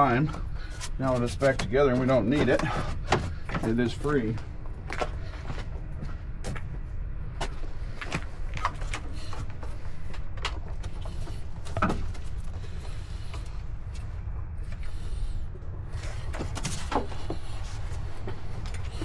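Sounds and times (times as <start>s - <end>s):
steady low rumble: 0.0s - 19.0s
clicks and knocks of engine parts: 0.1s - 5.7s, 6.4s - 14.9s, 16.0s - 19.0s.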